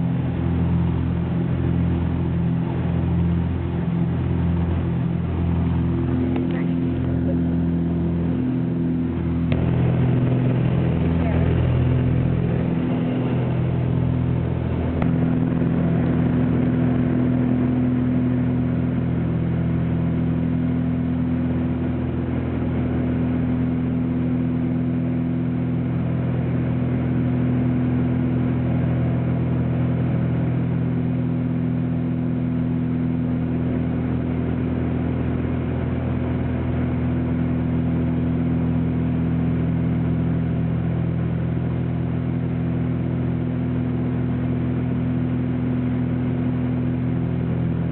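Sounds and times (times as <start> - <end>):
plane engine hum in cabin: 0.0 - 47.9.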